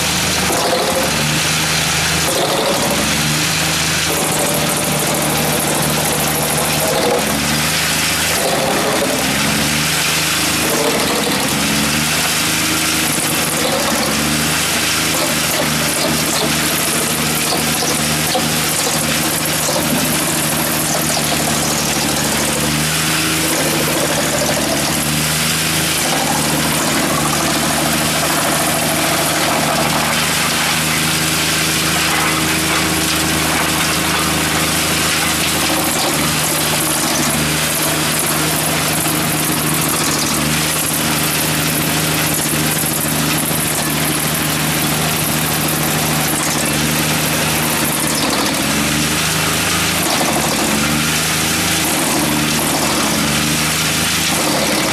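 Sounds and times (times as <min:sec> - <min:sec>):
wood chipper running: 0:00.0 - 0:54.9.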